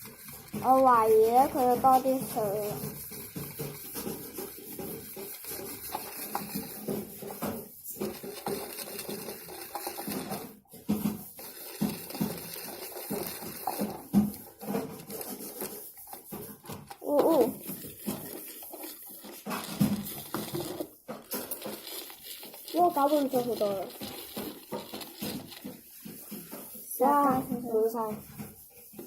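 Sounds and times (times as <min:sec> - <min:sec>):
straw clicking and scraping plastic: 0:00.0 - 0:29.0.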